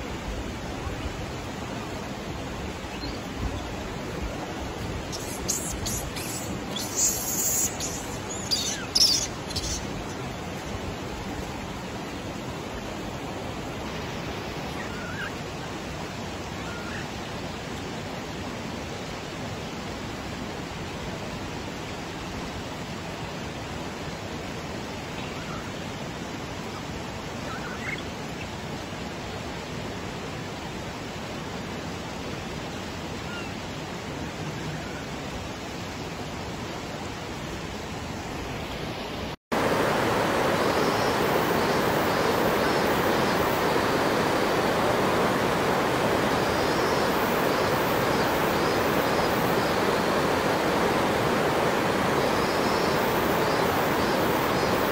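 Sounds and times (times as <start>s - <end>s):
flowing water rushing: 0.0s - 54.9s.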